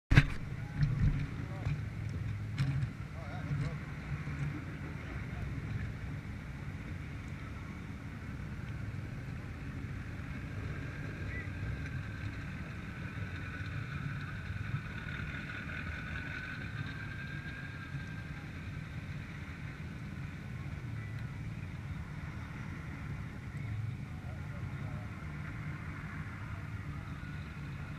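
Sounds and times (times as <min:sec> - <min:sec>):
distant truck engines rumbling: 0:00.1 - 0:27.9
faint whine: 0:00.1 - 0:27.9.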